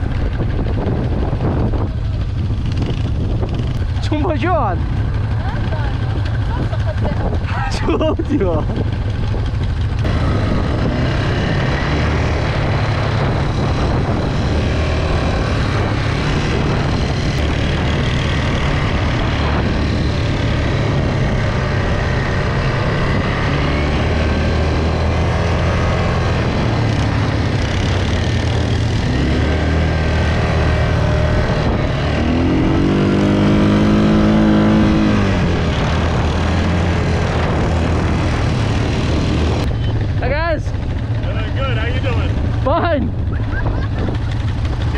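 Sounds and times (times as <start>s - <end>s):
engine revving: 0.0s - 44.9s
quad bike engines droning: 0.0s - 44.9s.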